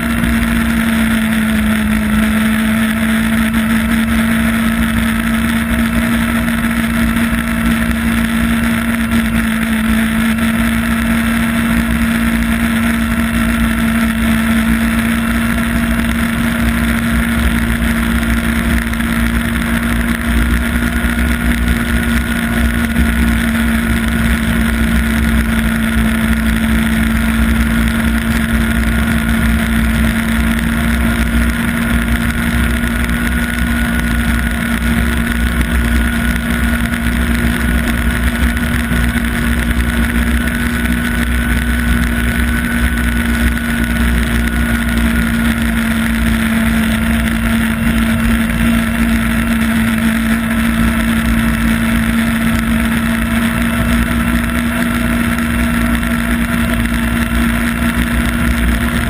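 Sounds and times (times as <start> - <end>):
snowmobile engine droning: 0.0 - 59.0.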